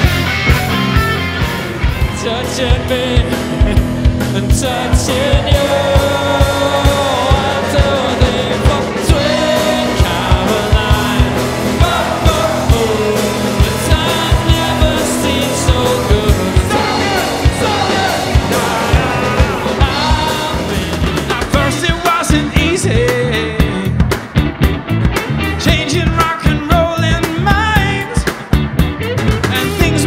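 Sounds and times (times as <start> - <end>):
drum kit beat: 0.0 - 30.0
electric guitars: 0.0 - 30.0
person singing: 2.0 - 24.1, 25.2 - 28.4, 29.3 - 30.0.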